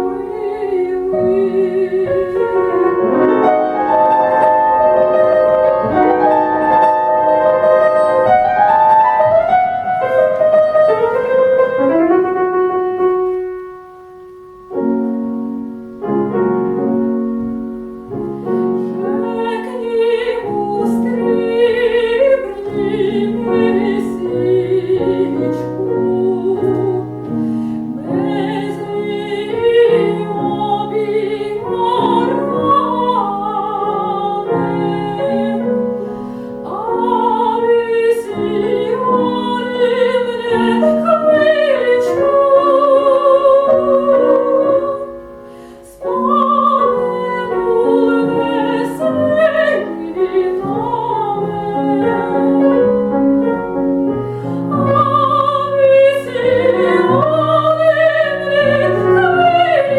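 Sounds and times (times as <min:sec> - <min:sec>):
woman singing classically: 0:00.0 - 0:11.9, 0:18.8 - 0:36.0, 0:36.6 - 0:53.1, 0:54.4 - 0:59.9
grand piano accompaniment: 0:00.0 - 0:59.9.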